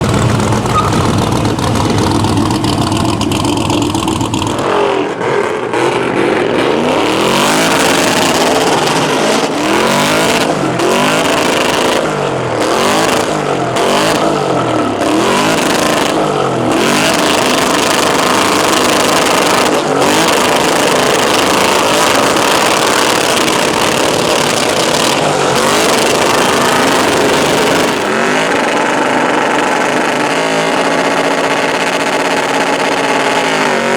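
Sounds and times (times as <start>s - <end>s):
pickup engine revving hard: 0.0s - 33.9s.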